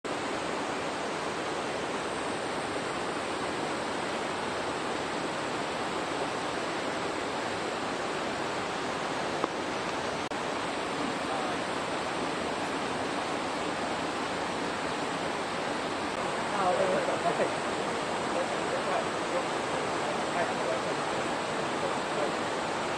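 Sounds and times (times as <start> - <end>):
flowing water rushing: 0.0 - 22.9.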